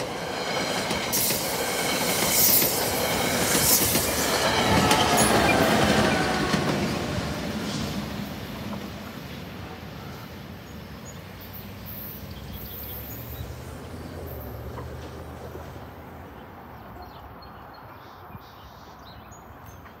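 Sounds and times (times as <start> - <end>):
train rumbling: 0.0 - 18.3.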